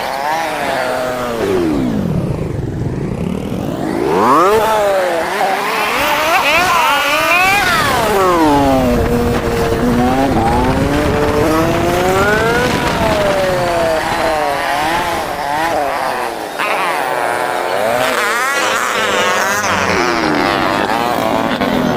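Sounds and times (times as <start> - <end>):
sped-up motorcycle engine revving: 0.0 - 21.9.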